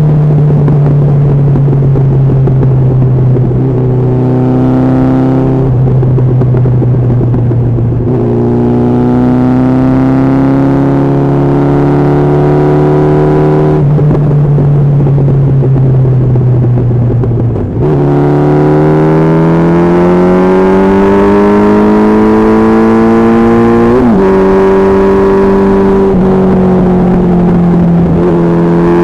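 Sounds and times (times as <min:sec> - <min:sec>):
engine note climbing in pitch: 0:00.0 - 0:29.0
motorcycle engine droning: 0:00.0 - 0:29.0.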